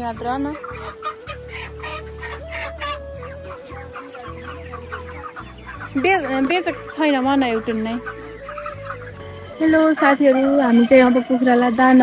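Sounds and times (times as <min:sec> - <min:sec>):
chickens clucking and cheeping: 0:00.0 - 0:12.0.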